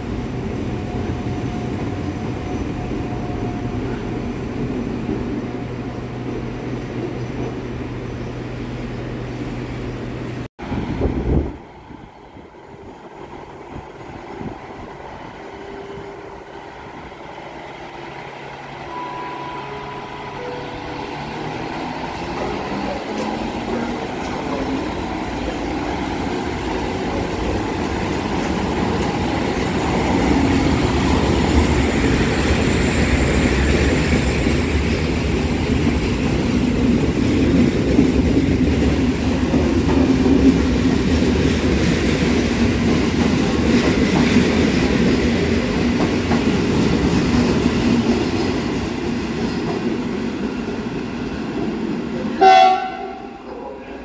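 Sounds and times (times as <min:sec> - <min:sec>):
diesel locomotive passing: 0:00.0 - 0:54.0.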